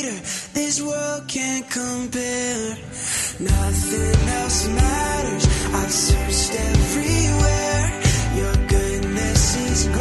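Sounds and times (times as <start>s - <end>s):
worship pop song: 0.0s - 10.0s.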